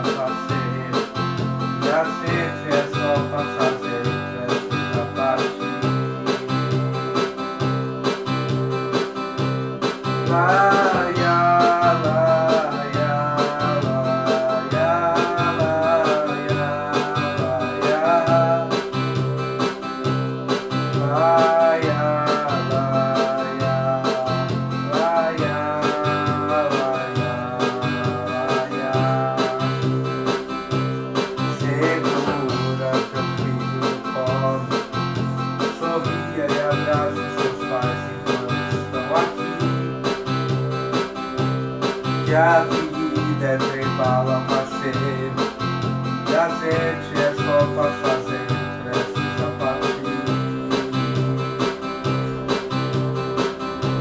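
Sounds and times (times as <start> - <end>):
electronic keyboard melody: 0.0 - 54.0
low bass notes: 0.0 - 54.0.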